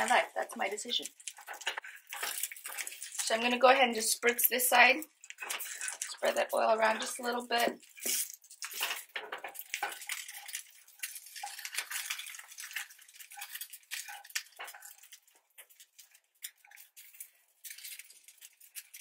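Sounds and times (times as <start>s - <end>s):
spatula scraping frying pan: 0.0s - 19.0s.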